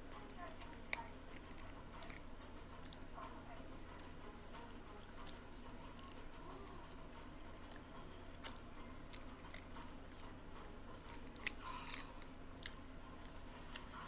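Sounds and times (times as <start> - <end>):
faint steady hum: 0.0 - 14.0
person chewing food: 0.0 - 14.0
wet clicks and crunches: 0.1 - 6.4, 7.4 - 10.4, 11.0 - 14.0.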